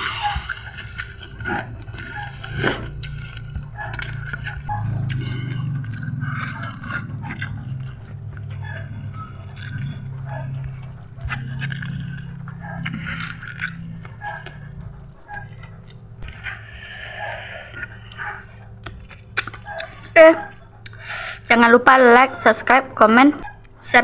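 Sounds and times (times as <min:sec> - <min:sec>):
person chewing: 0:00.0 - 0:21.5.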